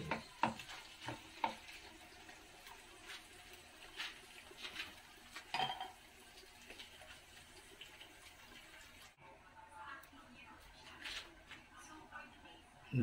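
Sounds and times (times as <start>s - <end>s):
pork simmering in a pan: 0.0s - 13.0s.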